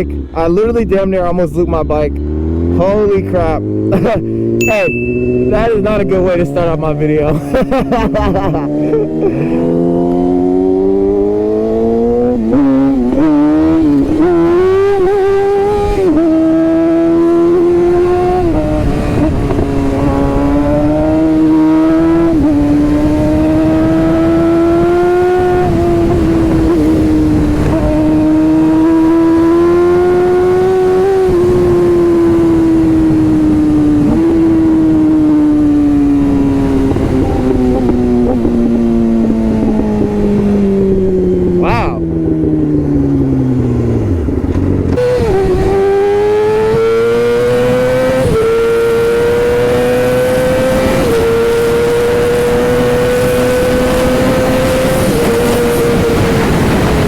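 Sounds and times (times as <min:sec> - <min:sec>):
motorcycle engine shifting gears: 0:01.9 - 0:57.0
wind rush: 0:05.5 - 0:57.0.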